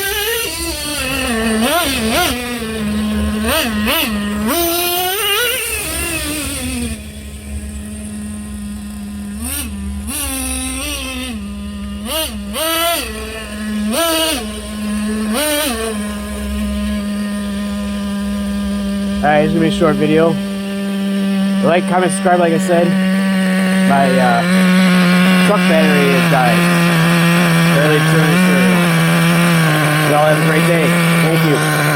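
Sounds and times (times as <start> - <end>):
small nitro engine revving: 0.0 - 31.9.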